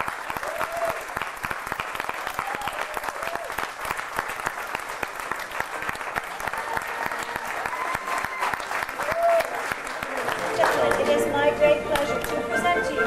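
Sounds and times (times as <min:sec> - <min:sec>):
crowd clapping: 0:00.0 - 0:12.5.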